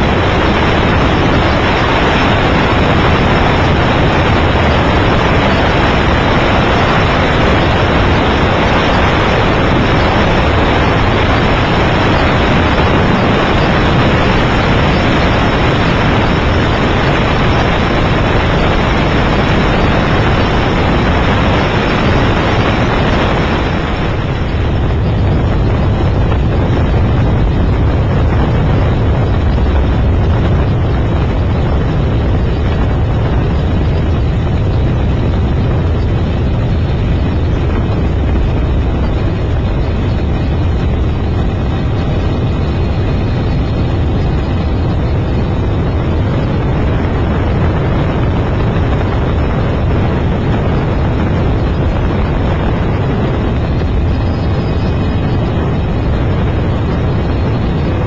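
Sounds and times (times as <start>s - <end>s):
light aircraft engine in flight: 0.0s - 58.0s.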